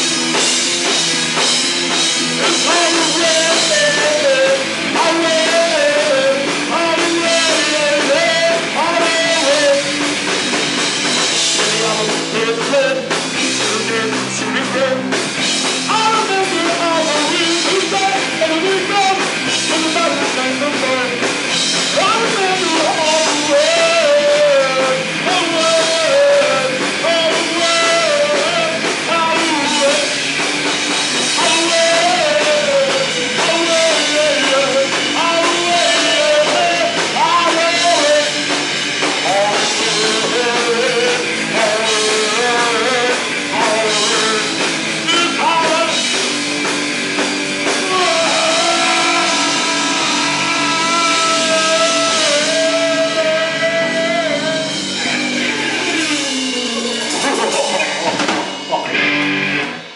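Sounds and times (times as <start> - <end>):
bass guitar: 0.0 - 59.9
drum kit: 0.0 - 59.9
electric guitar: 0.0 - 59.9
person singing: 2.4 - 10.2, 11.1 - 15.2, 15.9 - 30.4, 31.2 - 59.3.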